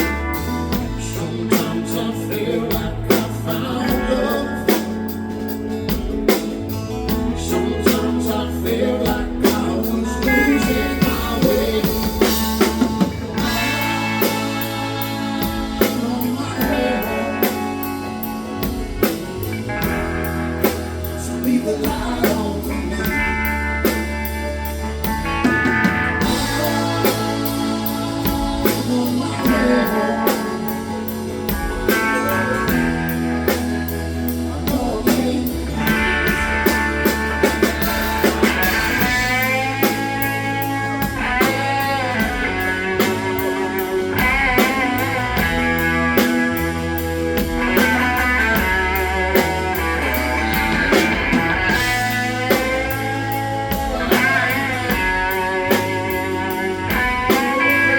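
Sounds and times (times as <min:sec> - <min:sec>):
steady drums: 0:00.0 - 0:57.9
lead guitar solo: 0:10.2 - 0:22.1, 0:22.7 - 0:57.9.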